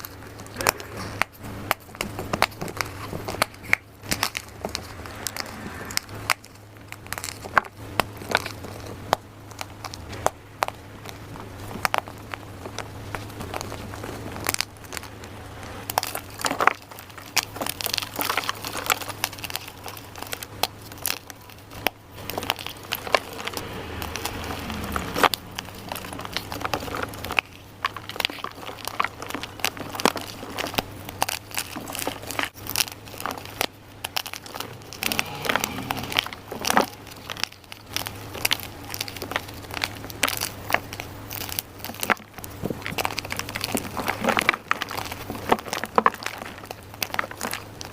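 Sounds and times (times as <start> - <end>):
chalk crunching and crackling: 0.0 - 47.9
low steady hum: 0.0 - 47.9.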